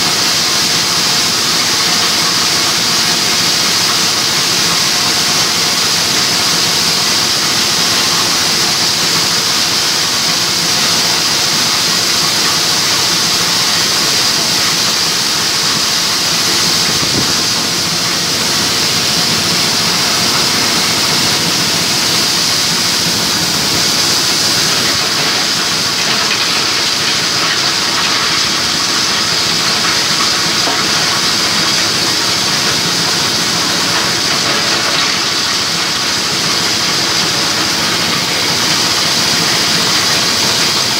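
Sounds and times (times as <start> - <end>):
grinder machine running: 0.0 - 40.9.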